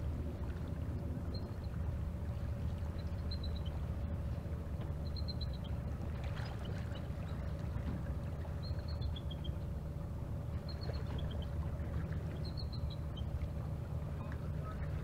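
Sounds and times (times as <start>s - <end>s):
boat engine drone: 0.0s - 15.0s
constant hum: 0.0s - 15.0s.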